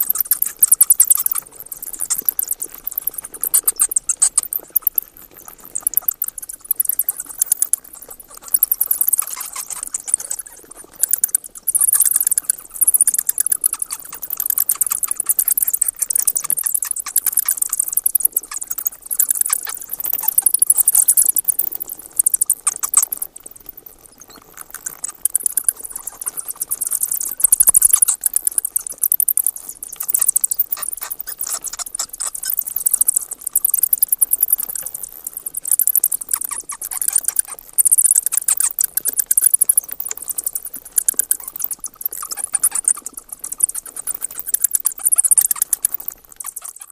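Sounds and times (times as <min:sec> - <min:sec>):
bats chittering: 0:00.0 - 0:46.9.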